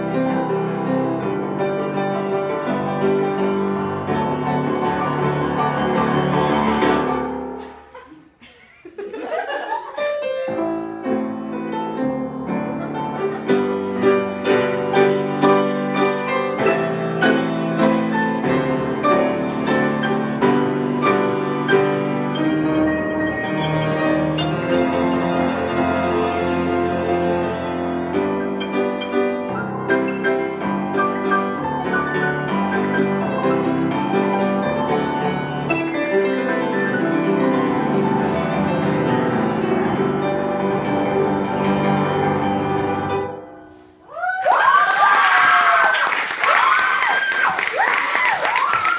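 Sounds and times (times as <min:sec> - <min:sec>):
piano duet: 0:00.0 - 0:48.9.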